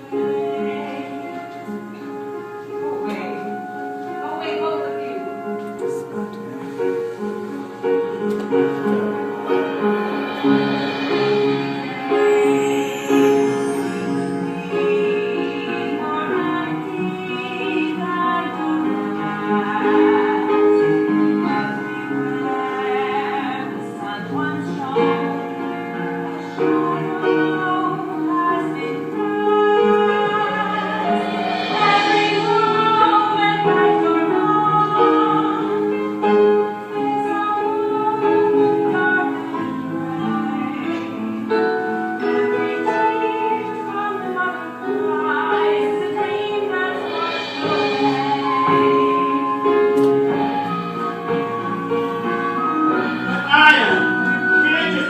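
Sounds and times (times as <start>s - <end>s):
woman singing: 0.0s - 5.7s, 10.9s - 53.4s
slow ballad accompaniment: 0.0s - 55.0s.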